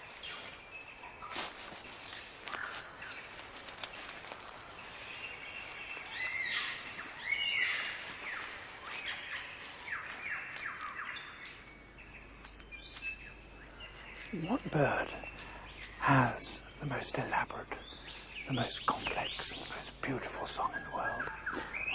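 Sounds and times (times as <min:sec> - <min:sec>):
birds singing: 0:00.0 - 0:21.9.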